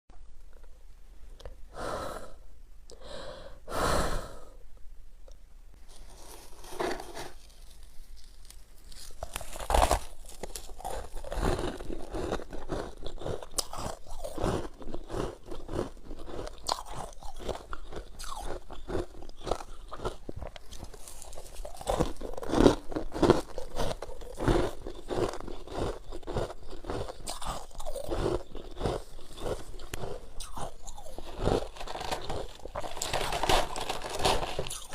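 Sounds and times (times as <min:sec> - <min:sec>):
chewing crunchy frost: 0:05.9 - 0:34.9.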